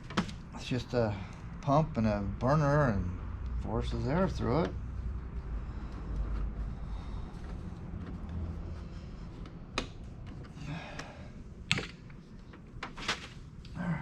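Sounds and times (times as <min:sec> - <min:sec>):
low steady background noise: 0:00.0 - 0:14.0.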